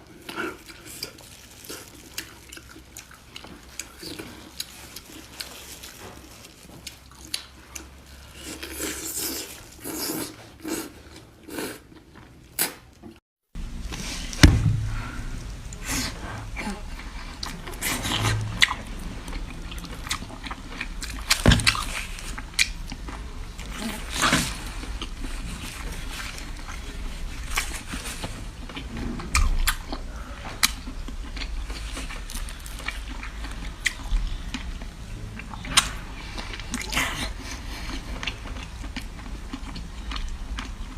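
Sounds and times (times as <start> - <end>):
person chewing with wet clicks: 0.1 - 12.9, 17.0 - 28.0, 28.6 - 40.9.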